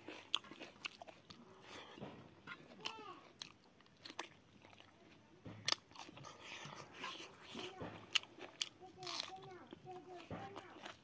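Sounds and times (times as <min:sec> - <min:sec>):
man chewing food: 0:00.0 - 0:11.0.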